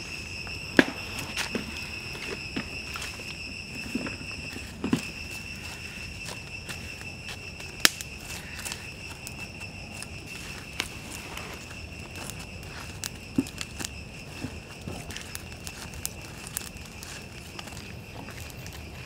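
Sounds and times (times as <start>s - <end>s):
insect trill: 0.0s - 19.0s
wood fire crackling: 0.0s - 19.0s.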